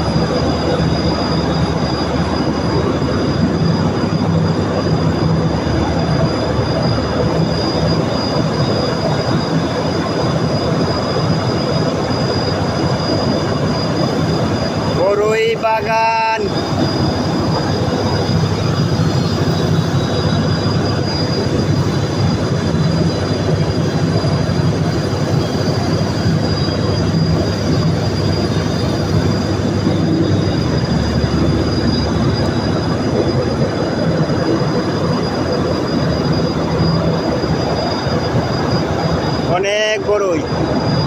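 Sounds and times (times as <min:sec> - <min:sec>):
high mechanical whine: 0:00.0 - 0:41.0
machine rumble and hiss: 0:00.0 - 0:41.0.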